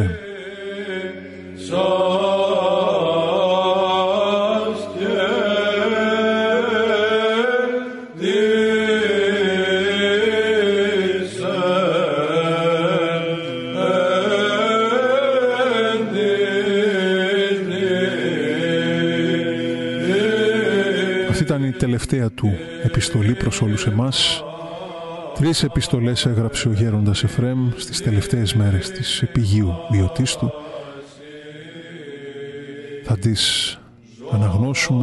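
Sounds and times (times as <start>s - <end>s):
held vocal drone: 0.0s - 35.0s
low voices chanting: 0.0s - 35.0s.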